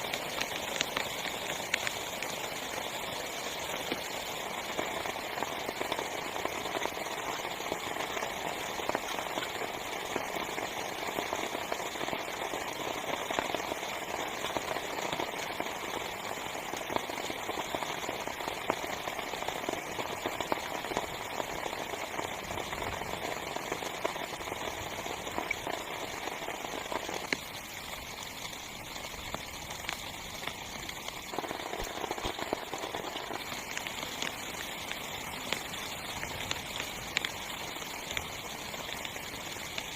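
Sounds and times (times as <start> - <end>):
heavy rain on tent fabric: 0.0 - 39.9.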